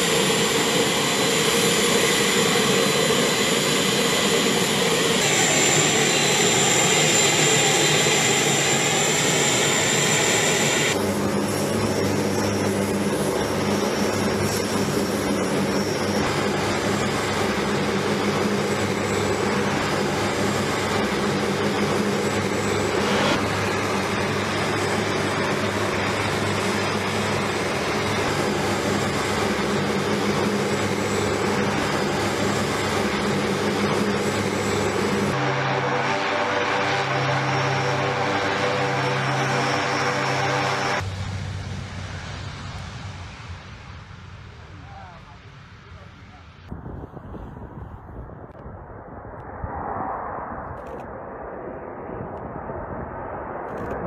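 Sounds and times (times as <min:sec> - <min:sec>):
turboprop engines running: 0:00.0 - 0:48.8.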